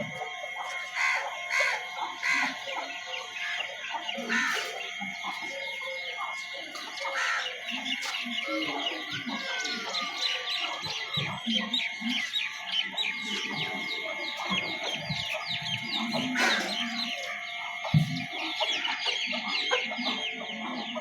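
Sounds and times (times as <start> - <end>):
chickens clucking: 0.0 - 21.0
chicks peeping: 0.0 - 21.0.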